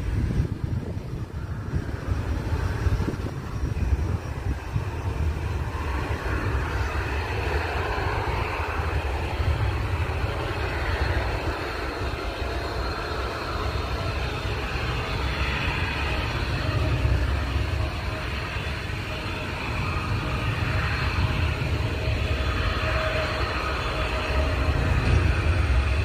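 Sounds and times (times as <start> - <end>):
airliner engines rumbling: 0.0 - 26.0.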